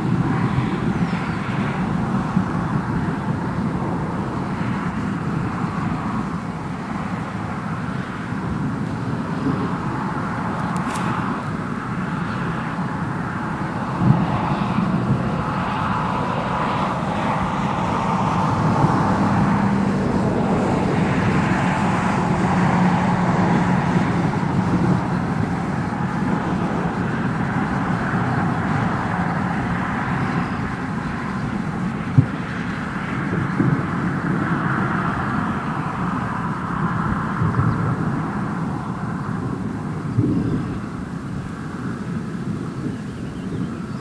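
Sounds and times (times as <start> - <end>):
distant hail roar: 0.0 - 44.0.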